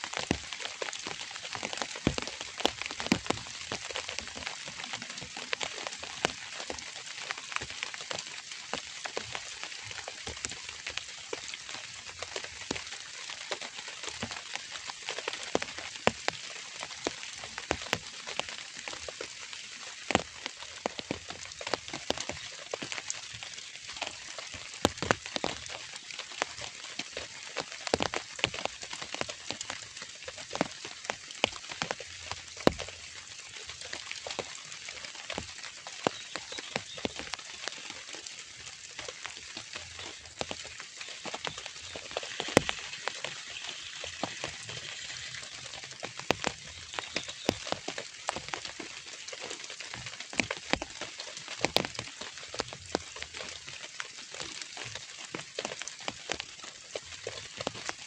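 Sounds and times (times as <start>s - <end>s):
rain hissing: 0.0s - 58.0s
raindrops striking sharply: 0.0s - 58.0s.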